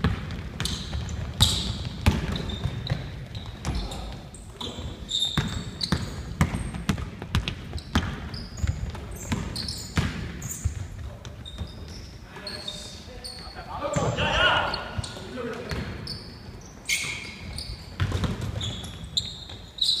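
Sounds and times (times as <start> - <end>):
basketball bouncing on court: 0.0 - 12.1, 13.9 - 16.2, 17.0 - 19.7
sneakers squeaking on court: 0.0 - 20.0.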